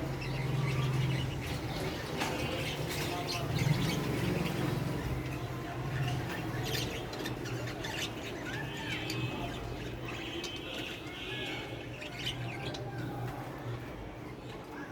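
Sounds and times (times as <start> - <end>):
lovebirds chirping: 0.0 - 13.3.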